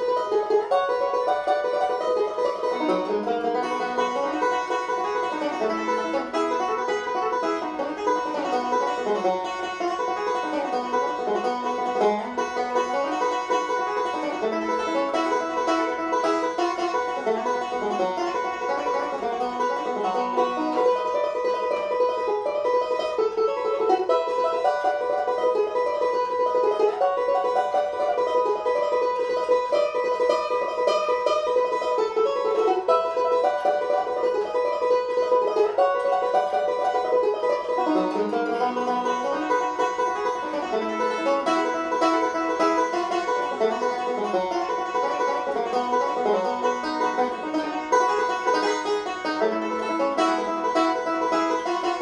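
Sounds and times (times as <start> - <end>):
banjo playing bluegrass: 0.0 - 52.0.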